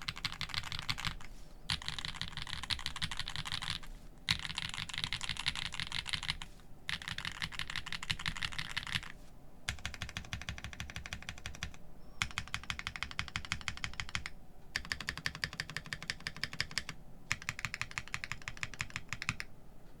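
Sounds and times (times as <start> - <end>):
fast typing on mechanical keyboard: 0.0 - 19.5.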